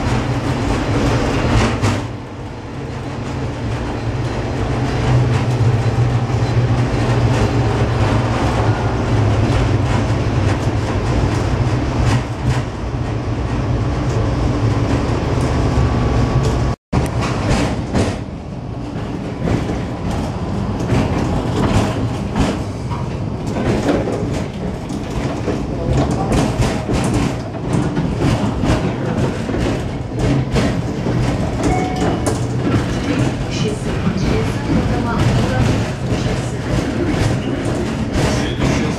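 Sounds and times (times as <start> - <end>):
tram running rumble: 0.0 - 38.9
tram wheels clicking over rail joints: 0.0 - 38.9.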